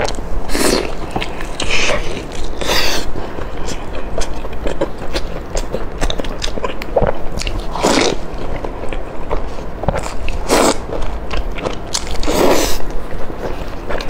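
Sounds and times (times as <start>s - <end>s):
wet biting and chewing: 0.0s - 14.0s.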